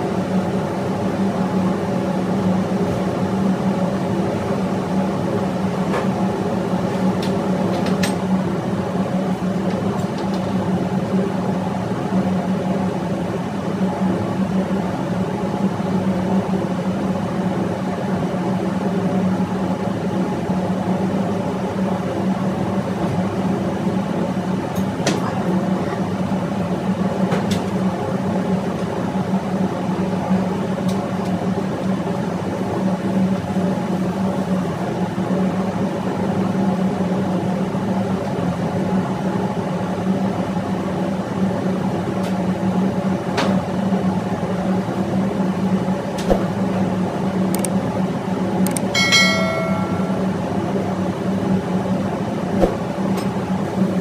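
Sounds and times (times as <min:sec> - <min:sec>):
machinery droning hum: 0:00.0 - 0:54.0.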